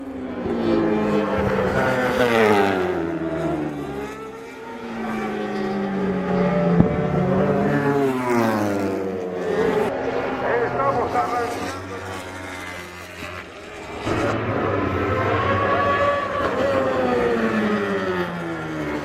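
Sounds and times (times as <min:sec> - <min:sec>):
racing motorcycles accelerating: 0:00.0 - 0:19.0.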